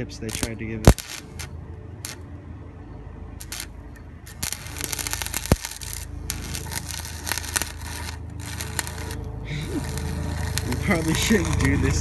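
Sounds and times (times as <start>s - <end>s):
welder crackling: 0.0s - 2.3s, 3.4s - 12.0s
steady low hum: 0.0s - 12.0s.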